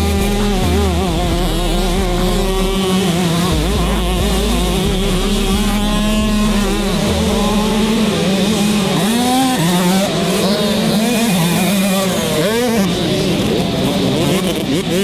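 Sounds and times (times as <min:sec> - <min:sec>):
dirt bike engine revving hard: 0:00.0 - 0:15.0
other bikes revving: 0:00.0 - 0:15.0.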